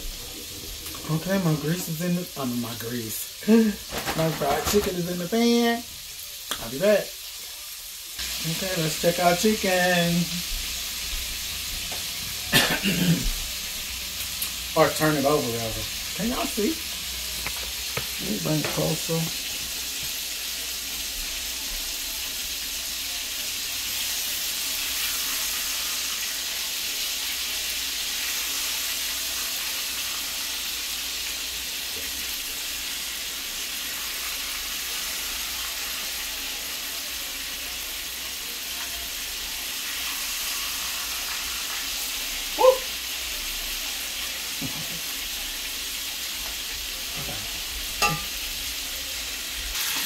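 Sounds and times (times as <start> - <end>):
chicken frying in grease: 0.0 - 50.0.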